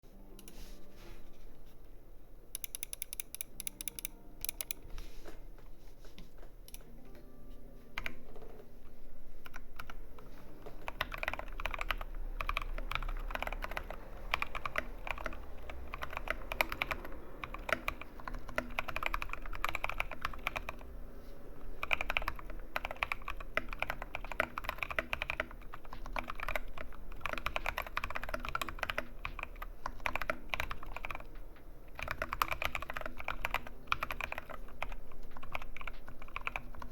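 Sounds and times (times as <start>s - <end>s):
mechanical keyboard typing: 2.5s - 4.9s, 7.9s - 8.6s, 9.4s - 20.9s, 21.7s - 36.9s.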